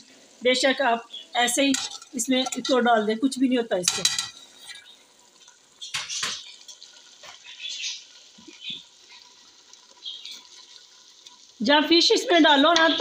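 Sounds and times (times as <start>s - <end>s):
fish sizzling in gravy: 0.0s - 13.0s.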